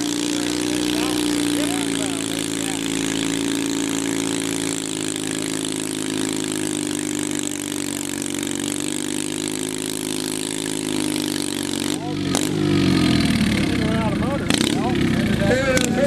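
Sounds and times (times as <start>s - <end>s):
garden tractor engine running: 0.0s - 16.0s.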